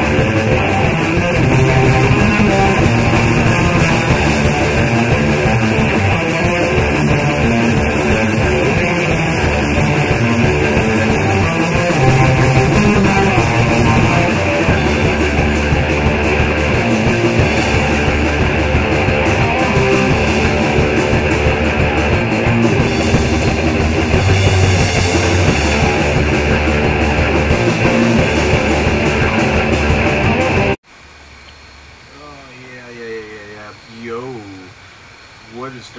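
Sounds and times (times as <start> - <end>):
rock music with guitar and drums: 0.0 - 30.8.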